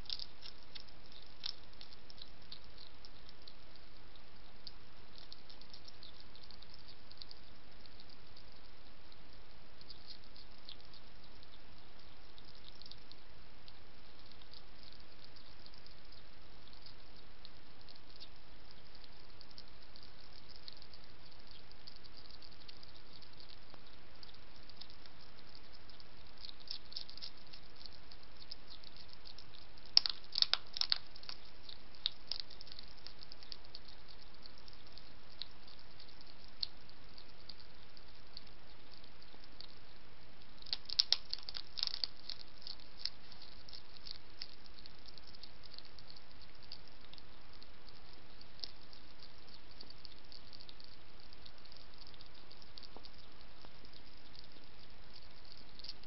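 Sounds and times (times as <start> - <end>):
hedgehog crunching dry food: 0.0 - 56.0
steady background hiss: 0.0 - 56.0.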